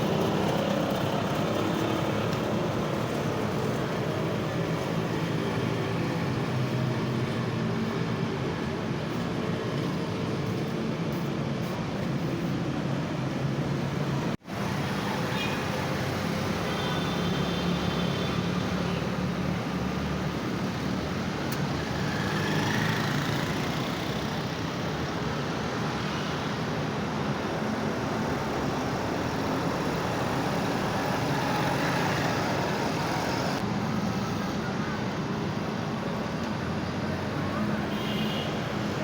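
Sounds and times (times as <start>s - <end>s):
road traffic noise: 0.0s - 39.0s.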